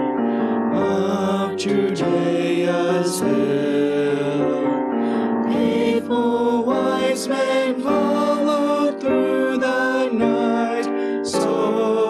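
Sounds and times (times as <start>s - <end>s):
vocal quartet singing in harmony: 0.4s - 12.0s.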